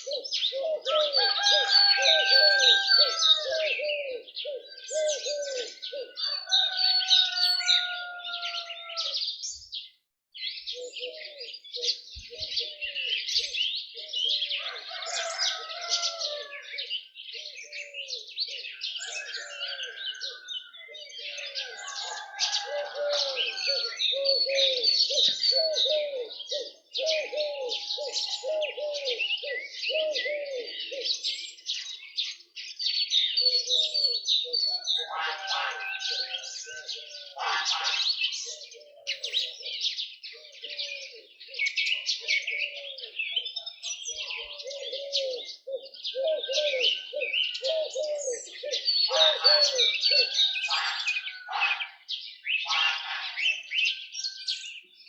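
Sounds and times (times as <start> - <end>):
small birds chirping and singing: 0.0 - 55.0.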